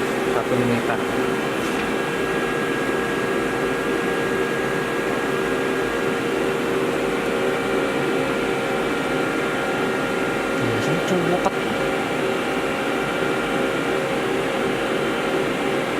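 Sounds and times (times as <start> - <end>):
machine mechanical hum: 0.0 - 15.9.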